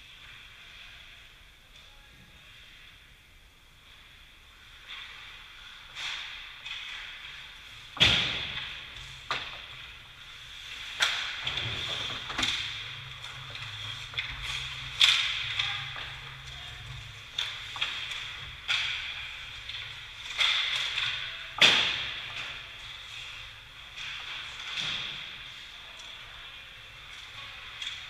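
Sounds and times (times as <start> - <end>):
hockey sticks and puck cracking: 4.0 - 28.0.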